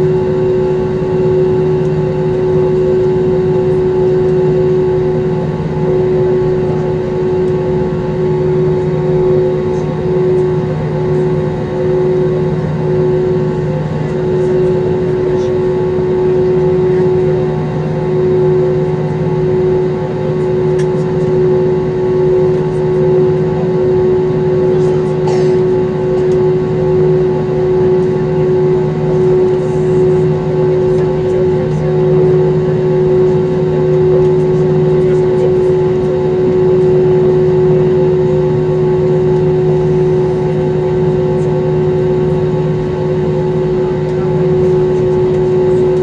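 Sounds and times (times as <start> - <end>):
jet engines droning in cabin: 0.0 - 46.0.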